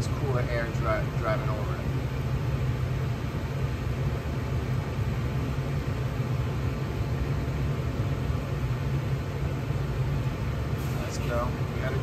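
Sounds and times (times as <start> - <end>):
furnace blower air rush: 0.0 - 12.0.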